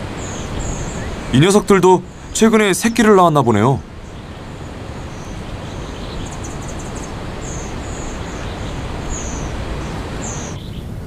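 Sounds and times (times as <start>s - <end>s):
steady forest background noise: 0.0s - 11.0s.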